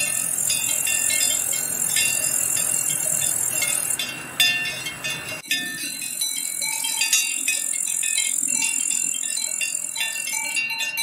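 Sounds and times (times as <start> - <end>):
cowbells clanking: 0.0 - 11.0
steady high-pitched hiss: 0.0 - 11.0.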